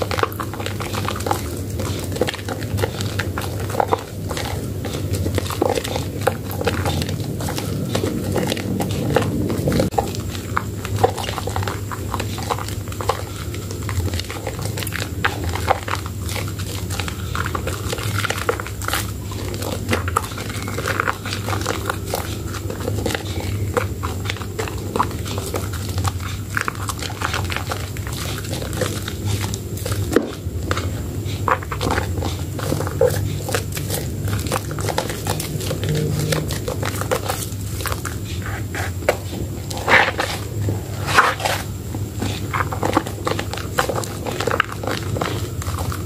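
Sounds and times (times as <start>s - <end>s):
crackling foam: 0.0s - 46.0s
steady low hum: 0.0s - 46.0s
wet soap squelching: 0.0s - 46.0s.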